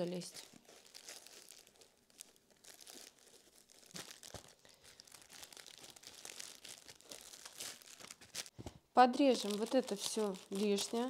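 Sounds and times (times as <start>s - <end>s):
plastic and foil crinkling: 0.0s - 11.0s.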